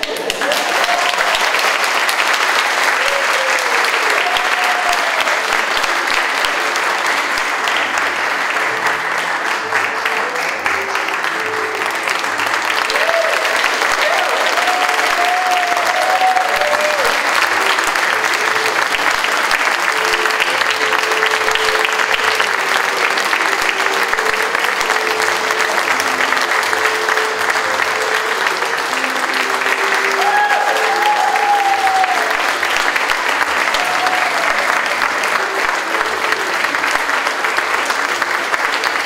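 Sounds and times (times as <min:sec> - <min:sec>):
audience cheering: 0:00.0 - 0:07.4, 0:09.7 - 0:38.3
audience applauding: 0:00.0 - 0:39.0
soft music of held notes: 0:02.6 - 0:39.0.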